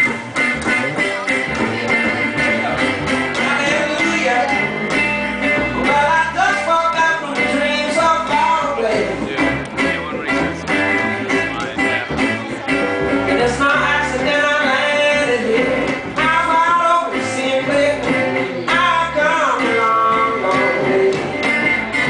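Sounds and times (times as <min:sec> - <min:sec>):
acoustic guitar picked: 0:00.0 - 0:22.0
upright bass plucked: 0:00.0 - 0:22.0
man singing: 0:01.0 - 0:04.9, 0:05.6 - 0:12.6, 0:13.3 - 0:22.0.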